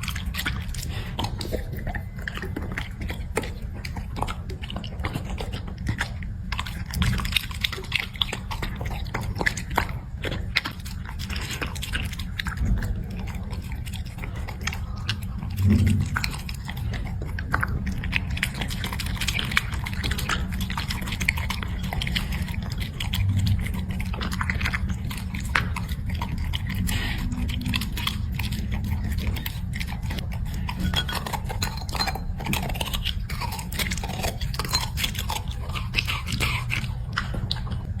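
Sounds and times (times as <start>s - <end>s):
dog chewing food: 0.0s - 38.0s
steady low hum: 0.0s - 38.0s.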